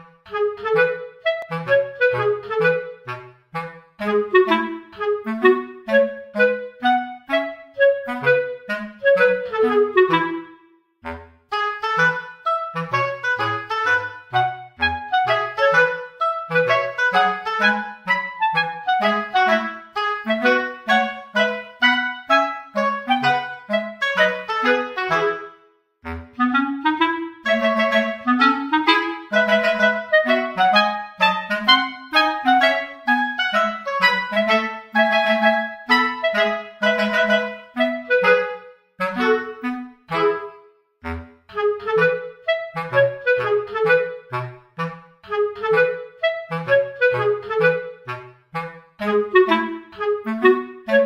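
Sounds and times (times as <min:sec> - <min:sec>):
instrumental background music: 0:00.0 - 0:51.0.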